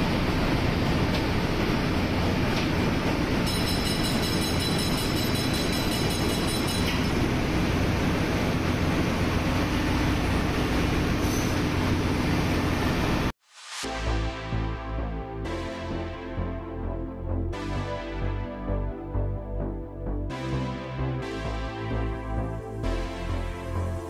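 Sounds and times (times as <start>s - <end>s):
engine-room machinery drone: 0.0s - 24.0s.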